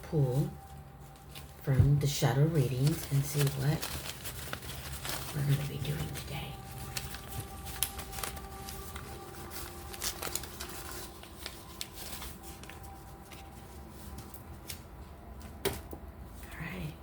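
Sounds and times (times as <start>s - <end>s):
cards being shuffled: 2.7s - 16.5s.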